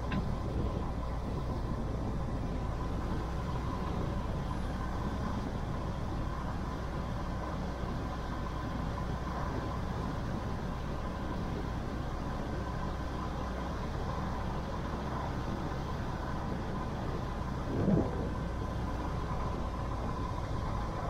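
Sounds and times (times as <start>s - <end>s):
faint steady whine: 0.0s - 21.0s
vehicle running rumble: 0.0s - 21.0s.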